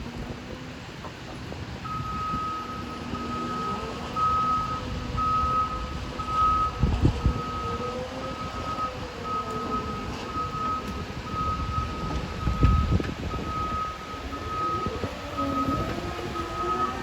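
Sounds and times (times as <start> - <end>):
diesel engine revving: 0.0 - 17.0
backup alarm beeping: 1.8 - 17.0.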